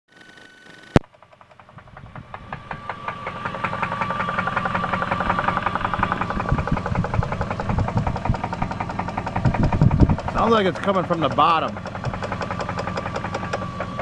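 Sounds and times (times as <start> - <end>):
engine idling with rapid knock: 0.1 - 14.0
steady high whine: 0.1 - 14.0.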